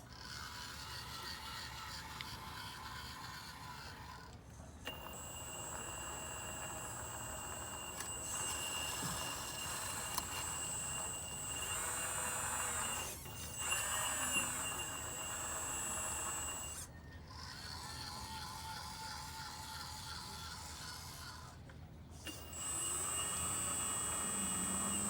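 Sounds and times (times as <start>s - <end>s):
hydraulic pump whining: 0.4s - 18.9s, 22.2s - 25.0s.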